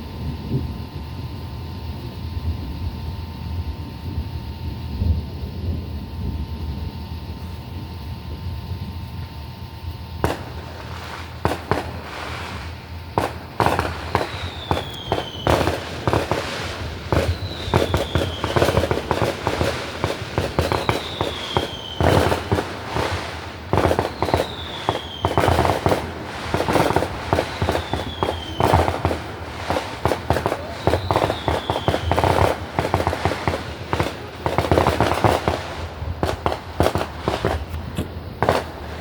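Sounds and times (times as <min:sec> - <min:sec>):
falling firework whistle: 0:00.0 - 0:39.0
fireworks bangs and crackles: 0:00.0 - 0:39.0.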